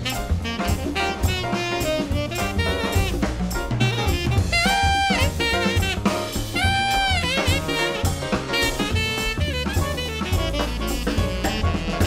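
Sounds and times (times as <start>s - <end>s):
jazz music with drums and bass: 0.0s - 12.0s.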